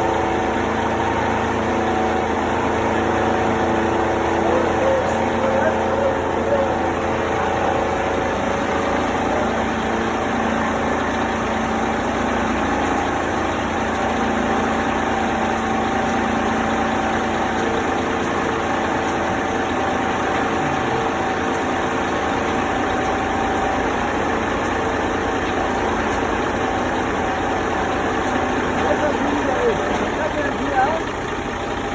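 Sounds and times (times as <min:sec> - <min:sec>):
constant whine: 0:00.0 - 0:31.9
engine idling: 0:00.0 - 0:31.9.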